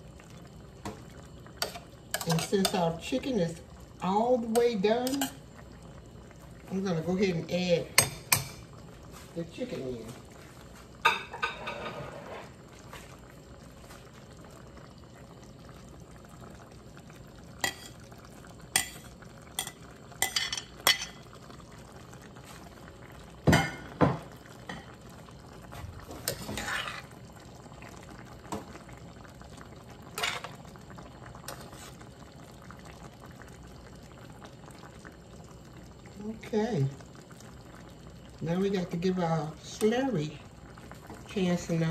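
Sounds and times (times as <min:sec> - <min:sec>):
sauce simmering: 0:00.0 - 0:41.9.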